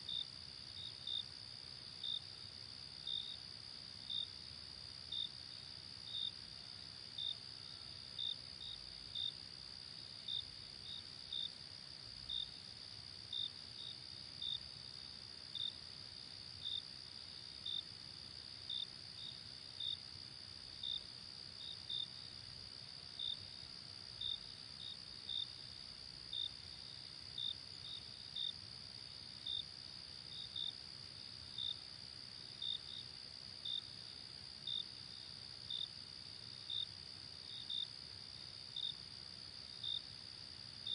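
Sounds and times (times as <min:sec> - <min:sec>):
cricket chirps: 0:00.0 - 0:40.9.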